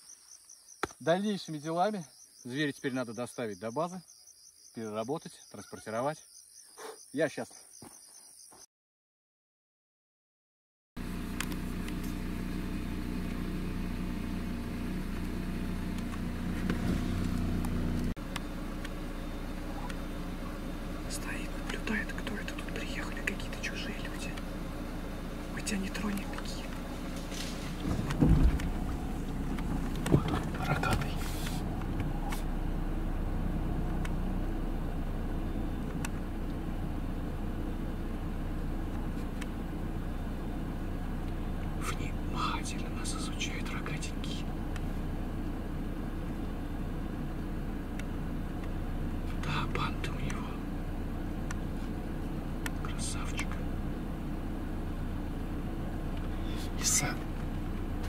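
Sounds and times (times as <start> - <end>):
car engine running: 11.0 - 58.0.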